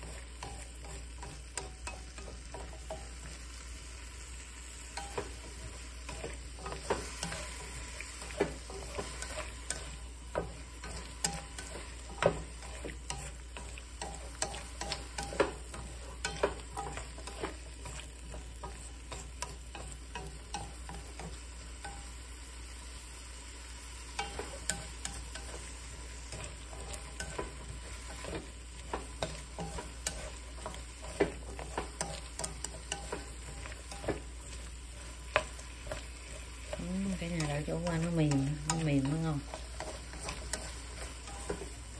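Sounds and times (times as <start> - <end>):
chopsticks tapping pan: 0.0 - 3.5, 4.9 - 22.2, 24.1 - 41.9
stir-frying sizzle: 0.0 - 41.9.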